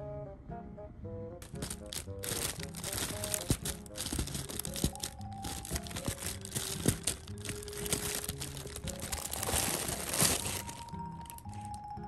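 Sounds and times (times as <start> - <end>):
gentle background music: 0.0 - 12.0
cat bed rustling: 1.4 - 11.7.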